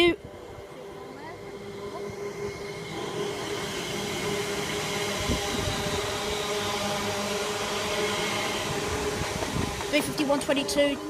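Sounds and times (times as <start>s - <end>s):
electric train passing with motor hum: 0.0s - 11.0s.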